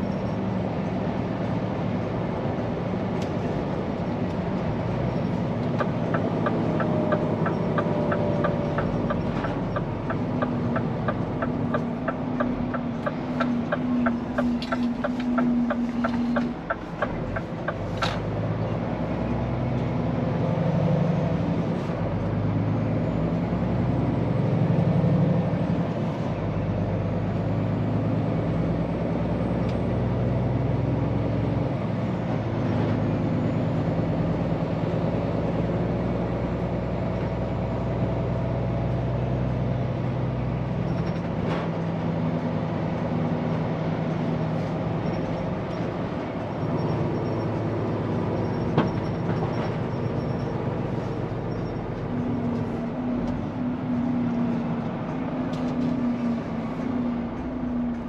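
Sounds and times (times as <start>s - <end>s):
truck diesel engine running: 0.0s - 20.5s, 30.3s - 58.0s.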